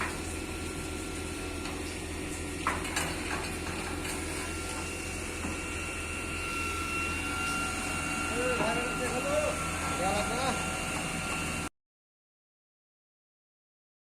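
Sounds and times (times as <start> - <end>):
thin steady whine: 0.0 - 11.7.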